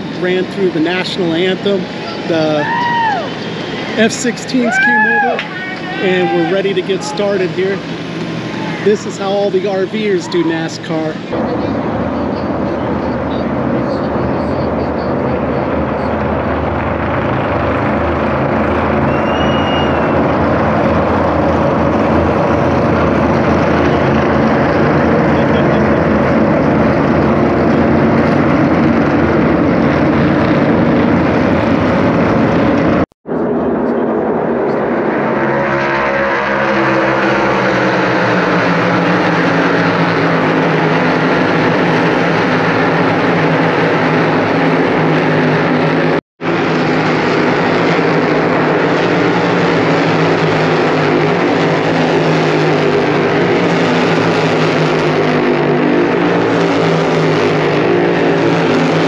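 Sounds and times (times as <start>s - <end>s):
race cars passing: 0.0s - 59.0s.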